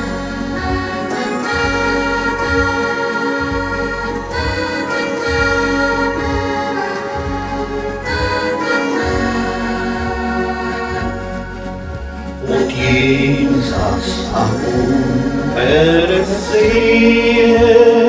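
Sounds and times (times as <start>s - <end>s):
keyboard bass line: 0.0s - 18.0s
sustained organ-like chords: 0.0s - 18.0s.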